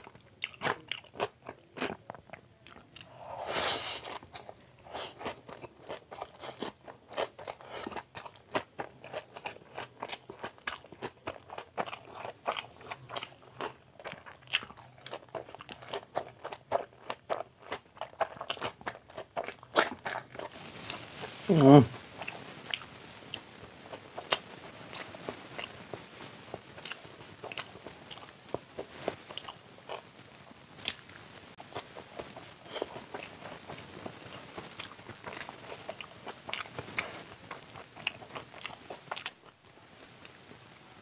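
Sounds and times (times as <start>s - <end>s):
man chewing noodles: 0.0s - 30.1s, 30.8s - 39.6s.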